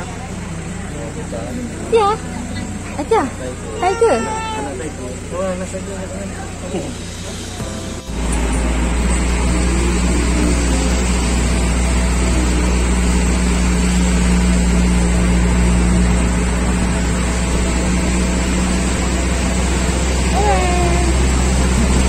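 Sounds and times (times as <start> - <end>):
small train engine humming: 0.0 - 22.0.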